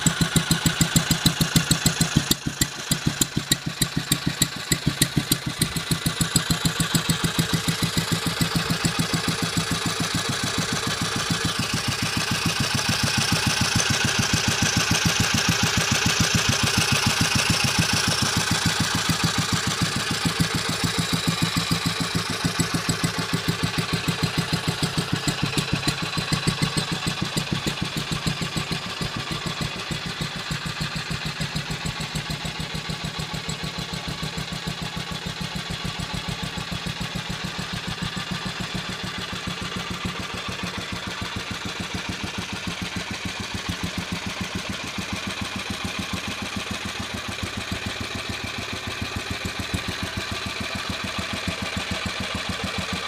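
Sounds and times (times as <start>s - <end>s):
stationary engine idling: 0.0s - 53.0s.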